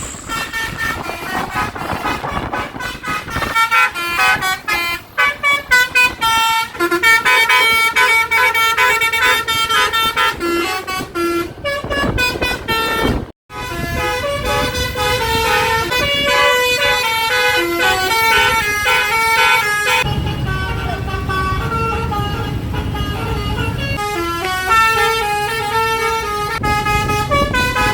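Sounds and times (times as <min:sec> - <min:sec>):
bus horn playing a tune: 0:00.0 - 0:27.9
road noise: 0:00.0 - 0:27.9.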